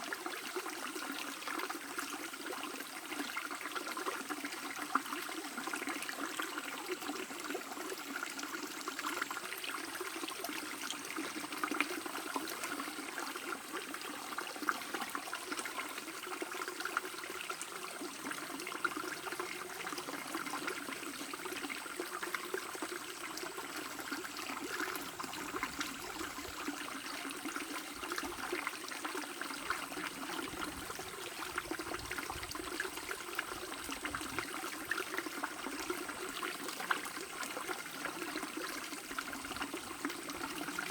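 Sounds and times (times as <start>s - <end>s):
stream babbling over stones: 0.0s - 40.9s
small water splashes: 1.9s - 40.9s.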